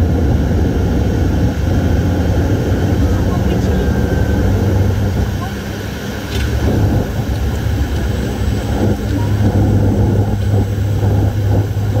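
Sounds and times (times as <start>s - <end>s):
propeller engine drone: 0.0s - 12.0s
rushing air noise: 0.0s - 12.0s.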